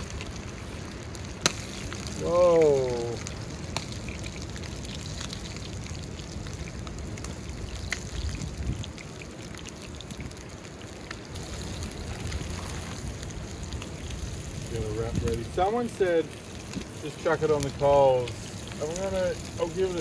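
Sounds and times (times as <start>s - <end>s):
campfire crackling pops: 0.0s - 20.0s
fish frying in oil: 0.0s - 20.0s.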